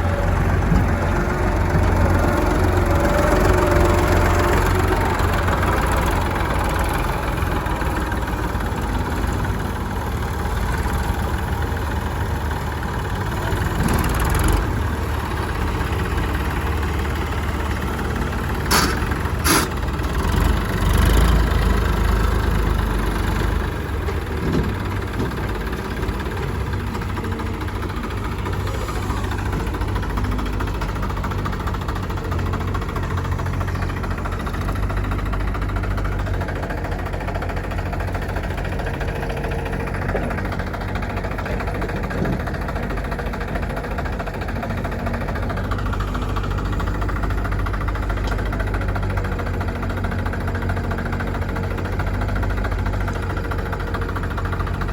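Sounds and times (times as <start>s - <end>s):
diesel engine running at low revs: 0.0s - 54.9s.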